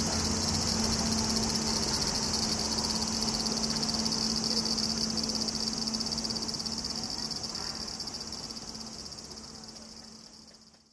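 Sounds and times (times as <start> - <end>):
cicadas droning: 0.0 - 10.8.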